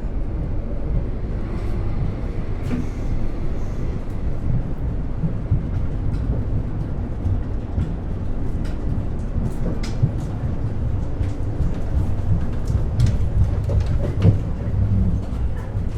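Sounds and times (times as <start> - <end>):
train rumbling: 0.0 - 15.9.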